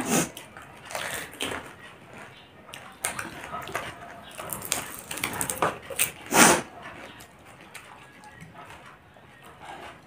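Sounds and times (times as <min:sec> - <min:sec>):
crisp shells crunched and chewed: 0:00.0 - 0:09.0.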